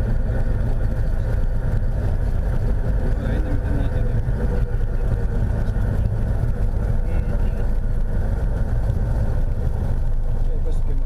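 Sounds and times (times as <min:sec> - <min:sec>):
plane engine and propeller running: 0:00.0 - 0:11.0.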